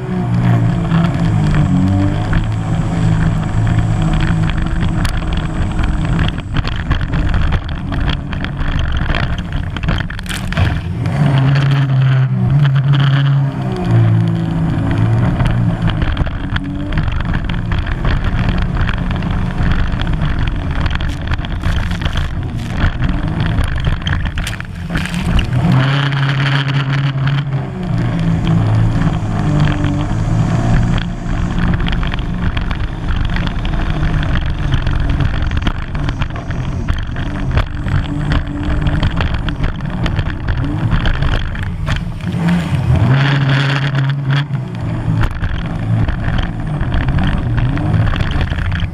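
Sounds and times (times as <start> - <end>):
wind: 0.0 - 48.9.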